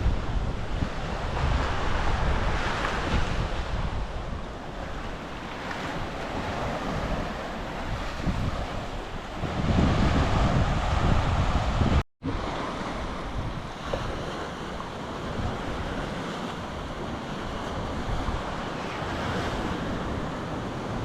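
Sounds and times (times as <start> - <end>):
sea surf washing: 0.0 - 21.0
wind rumbling on microphone: 0.0 - 21.0.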